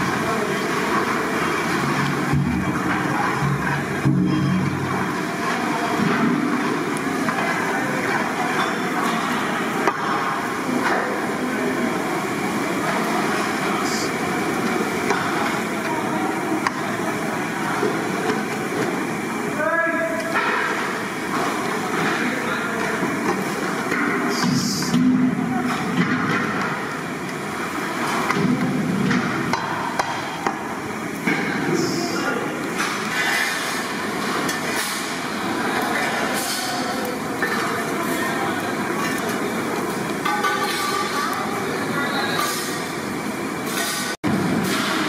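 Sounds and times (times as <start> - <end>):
steady noisy background: 0.0 - 45.0.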